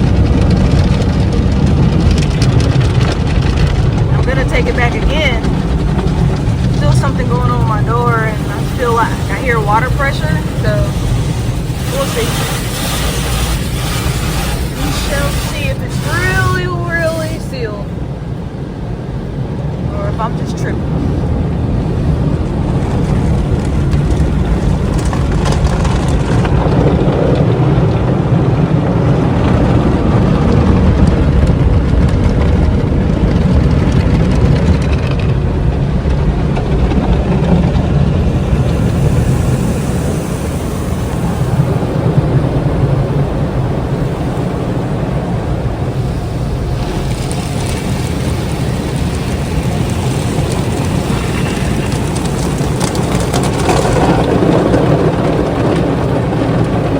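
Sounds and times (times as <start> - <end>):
water spray hitting a car: 0.0 - 56.9.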